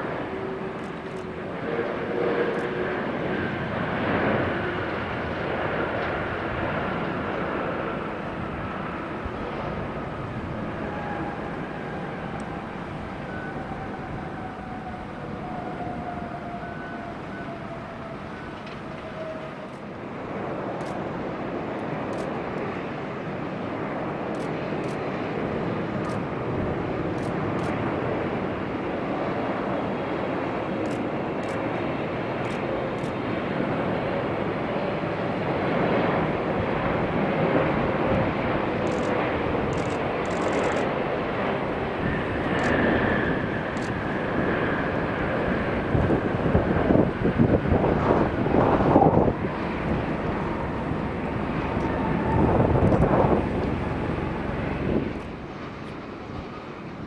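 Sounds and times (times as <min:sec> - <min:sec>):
jet engine whine: 0:00.0 - 0:57.0
jet roar of landing plane: 0:00.0 - 0:57.0.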